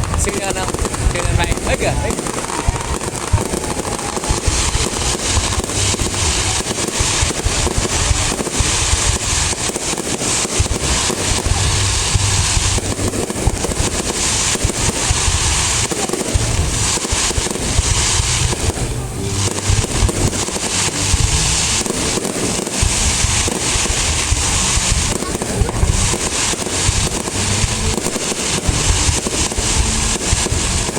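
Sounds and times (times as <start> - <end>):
deep firework booms: 0.0 - 30.9
fireworks crackling: 0.0 - 30.9.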